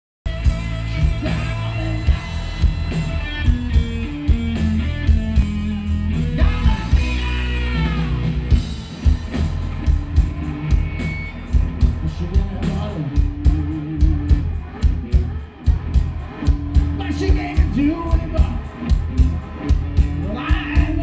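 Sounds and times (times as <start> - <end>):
electric guitar: 0.3 - 21.0
rock band playing live: 0.3 - 21.0.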